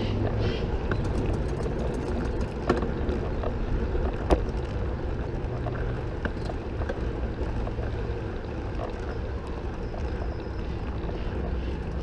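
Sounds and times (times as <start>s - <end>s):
road rumble: 0.0s - 12.0s.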